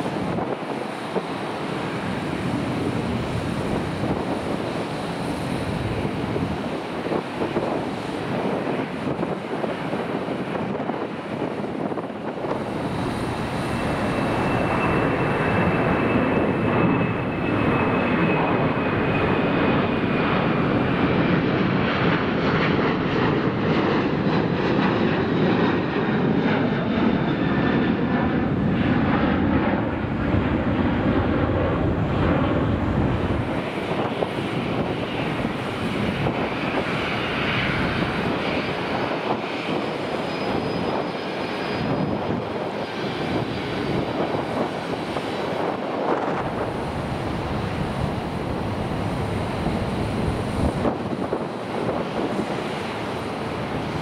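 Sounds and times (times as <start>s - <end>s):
distant jet hum: 0.0s - 54.0s
jet airliner passing overhead: 0.0s - 54.0s.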